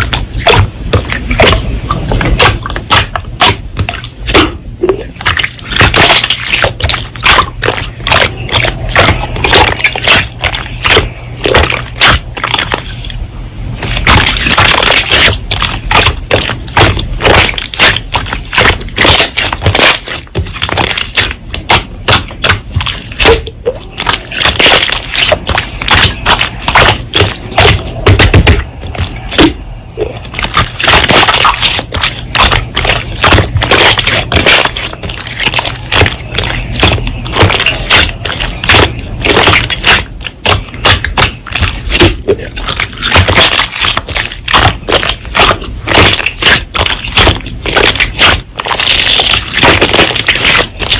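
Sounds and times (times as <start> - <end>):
slime clicking and popping: 0.0 - 13.2, 13.8 - 29.6, 30.2 - 50.9.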